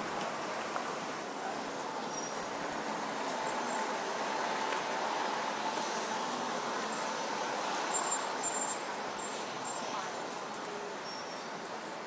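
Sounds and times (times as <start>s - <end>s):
city traffic hum: 0.0s - 12.0s.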